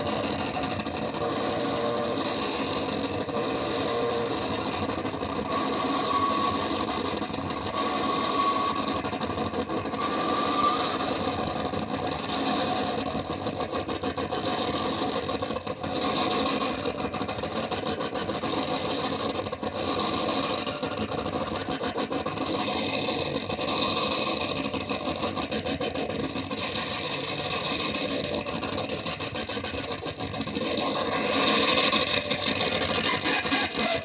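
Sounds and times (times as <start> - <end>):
gritty electronic noise drone: 0.0 - 34.0.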